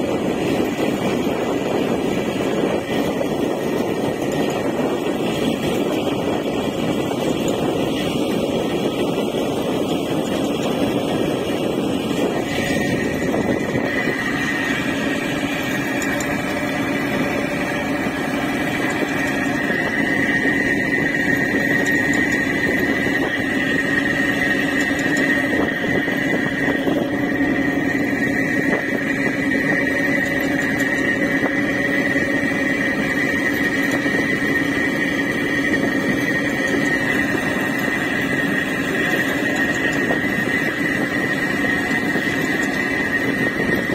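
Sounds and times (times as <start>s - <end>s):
boat engine running: 0.0s - 43.9s
high whine: 0.0s - 43.9s
water rushing past hull: 0.0s - 43.9s.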